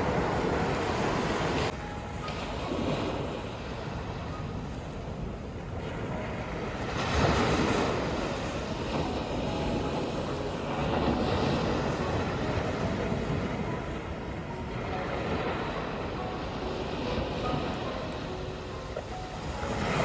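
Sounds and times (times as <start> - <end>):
sea waves washing ashore: 0.0 - 20.0
wind rumbling on microphone: 0.0 - 20.0.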